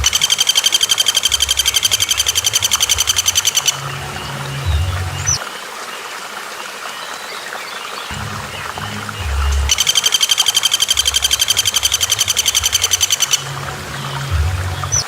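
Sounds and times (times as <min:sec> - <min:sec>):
bird trilling: 0:00.0 - 0:05.4, 0:08.1 - 0:15.0
low steady hum: 0:00.0 - 0:05.4, 0:08.1 - 0:15.0
faint bird chirps: 0:00.0 - 0:06.1, 0:06.9 - 0:15.0.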